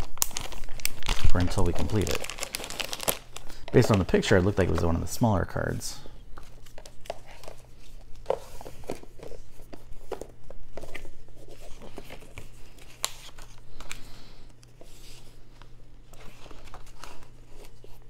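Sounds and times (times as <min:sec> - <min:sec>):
pages flipping: 0:00.0 - 0:04.9, 0:06.3 - 0:18.0
paper rustling and crinkling: 0:00.0 - 0:05.0, 0:06.4 - 0:14.2, 0:14.8 - 0:18.0.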